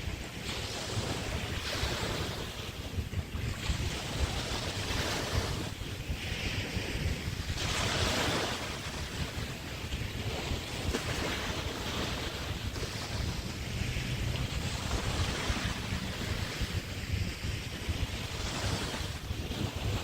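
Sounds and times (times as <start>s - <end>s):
waves washing onto beach: 0.0s - 20.0s
wind rumble on microphone: 0.0s - 20.0s.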